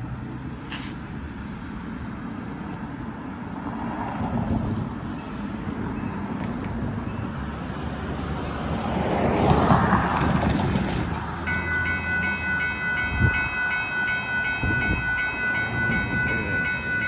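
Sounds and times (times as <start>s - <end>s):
cars passing on road: 0.0s - 17.0s.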